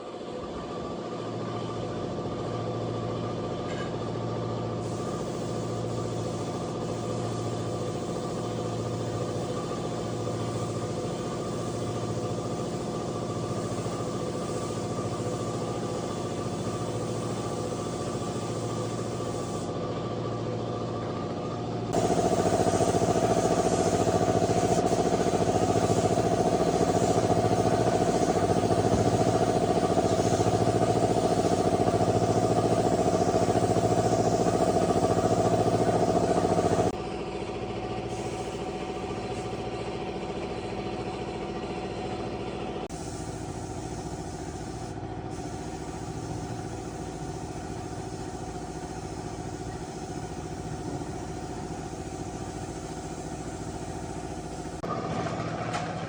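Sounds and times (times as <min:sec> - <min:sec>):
engine running: 0:04.8 - 0:56.0.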